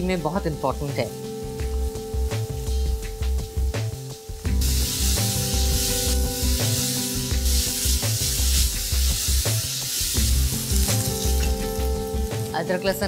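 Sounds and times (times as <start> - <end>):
onions sizzling in hot oil: 0.0 - 13.0
background music with bass beat: 1.2 - 12.5.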